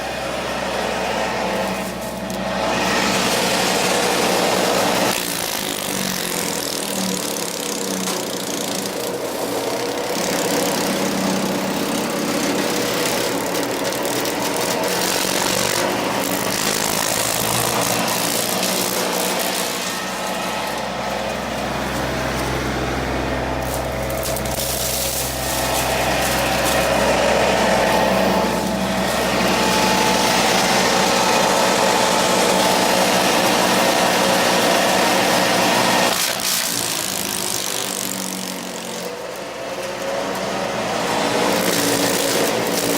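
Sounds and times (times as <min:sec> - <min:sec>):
tractor diesel engine running: 0:00.0 - 0:42.9
wood chipper crackling: 0:00.0 - 0:42.9.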